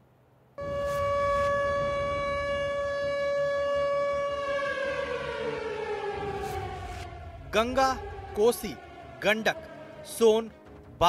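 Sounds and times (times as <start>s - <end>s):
siren winding down: 0.6s - 10.6s.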